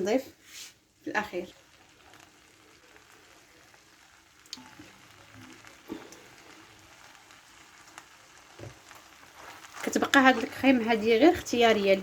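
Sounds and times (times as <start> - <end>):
rice sizzling and bubbling: 0.0 - 12.0.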